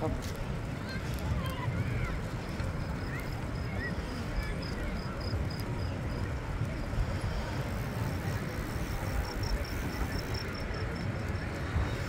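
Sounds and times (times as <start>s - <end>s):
bicycle tyres rolling on pavement: 0.0s - 12.0s
wind rumbling on microphone: 0.0s - 12.0s.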